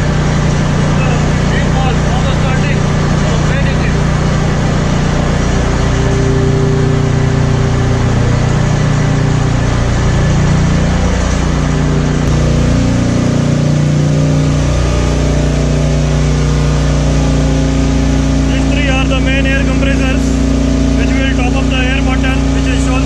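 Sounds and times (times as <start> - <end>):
constant machinery roar: 0.0 - 23.0
engine room machinery drone: 0.0 - 23.0
low hums: 0.0 - 23.0.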